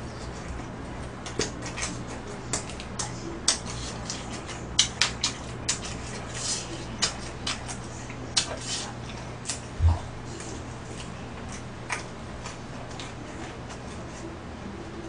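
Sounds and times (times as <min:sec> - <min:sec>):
chewing with wet smacks: 0:00.0 - 0:14.8.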